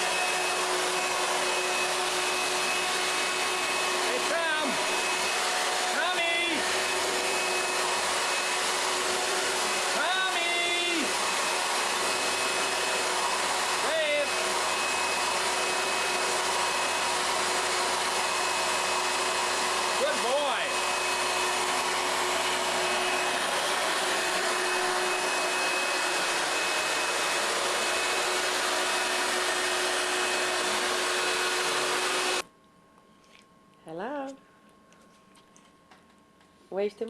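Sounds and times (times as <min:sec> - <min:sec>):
electric blower whooshing: 0:00.0 - 0:32.4.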